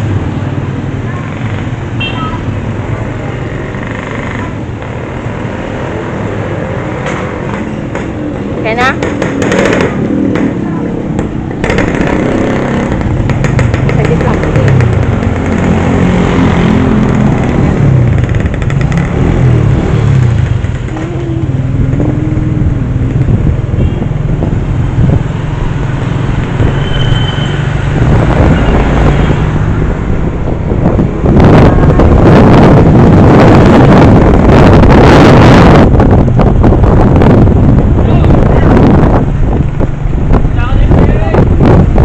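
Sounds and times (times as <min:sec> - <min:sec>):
wind buffeting microphone: 0:04.5 - 0:42.0.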